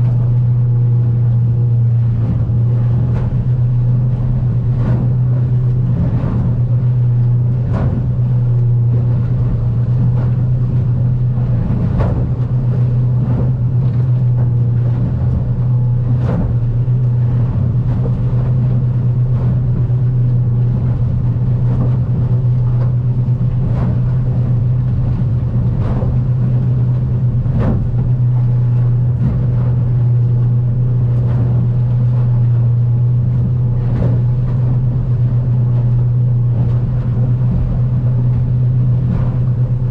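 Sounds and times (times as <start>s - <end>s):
boat hull slapping water: 0.0s - 39.9s
outboard engine droning: 0.0s - 39.9s.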